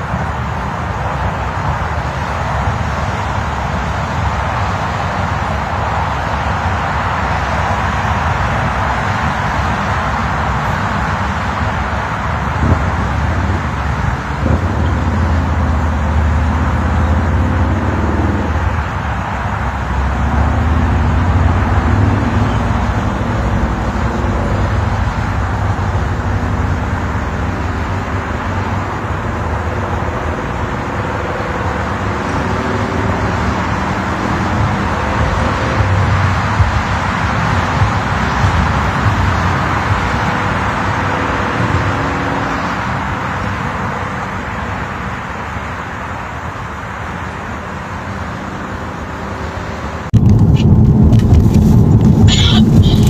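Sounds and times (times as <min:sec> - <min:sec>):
faint engine hum: 0:00.0 - 0:53.0
road traffic rumble: 0:00.0 - 0:53.0.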